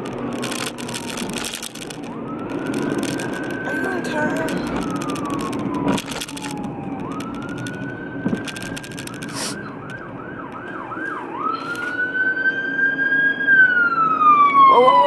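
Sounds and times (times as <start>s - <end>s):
car road hum: 0.0s - 14.9s
ambulance siren wail and yelp: 0.2s - 15.0s.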